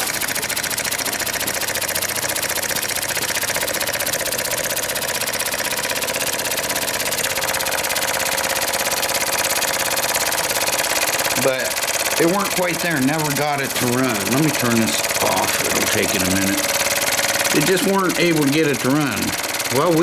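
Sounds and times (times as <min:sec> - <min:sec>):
small steam engine running fast: 0:00.0 - 0:20.0.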